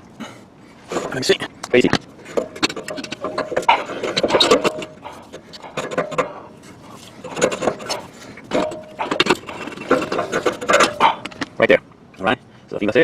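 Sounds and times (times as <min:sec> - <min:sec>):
metal parts clicking and scraping: 0:00.9 - 0:11.6.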